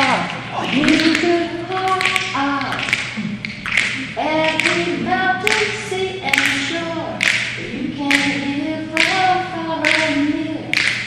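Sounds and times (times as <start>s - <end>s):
woman singing unaccompanied: 0.0s - 3.1s, 4.1s - 11.0s
clap-like beat: 0.0s - 11.0s.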